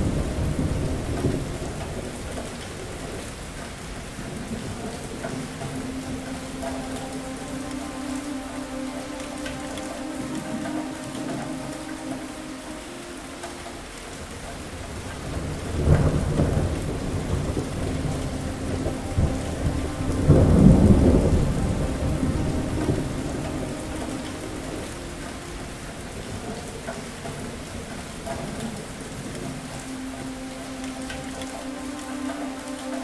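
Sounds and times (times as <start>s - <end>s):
thunder rumbling: 0.0s - 32.7s
steady rain: 0.0s - 33.0s.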